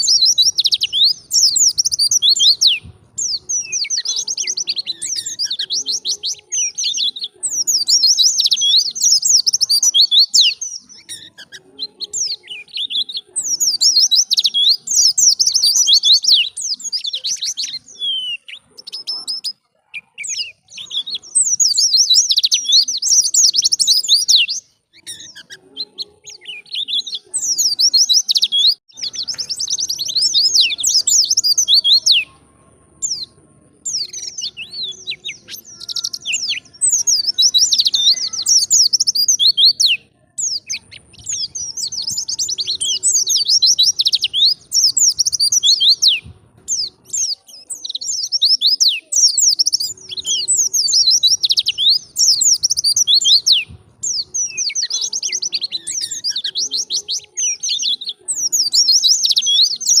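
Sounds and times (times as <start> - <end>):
bird twittering song: 0.0 - 60.0.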